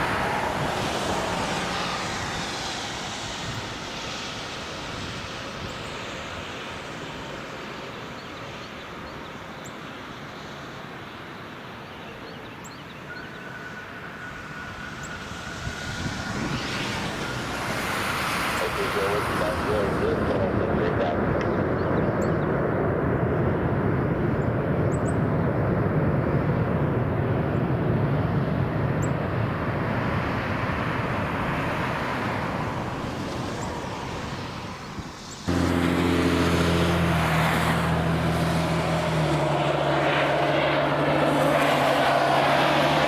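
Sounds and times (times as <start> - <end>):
aircraft engine roar: 0.0 - 43.0
propeller aircraft engines droning: 0.0 - 43.0.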